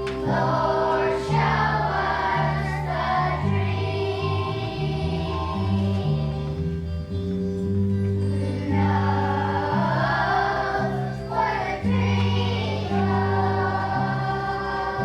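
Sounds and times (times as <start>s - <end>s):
children's choir singing: 0.0s - 7.1s, 8.2s - 15.0s
instrumental accompaniment: 0.0s - 15.0s.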